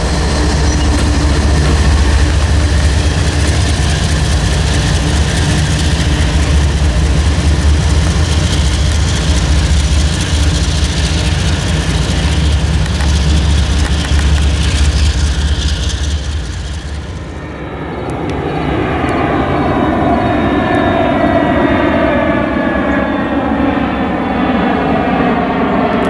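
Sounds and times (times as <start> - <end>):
locomotive engine droning: 0.0 - 26.0.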